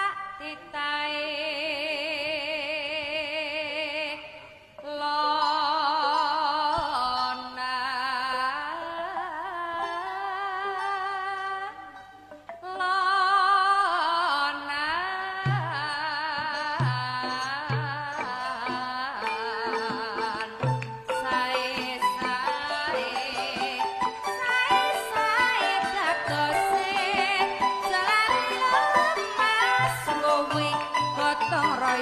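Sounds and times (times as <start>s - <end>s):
woman singing with vibrato: 0.0s - 32.0s.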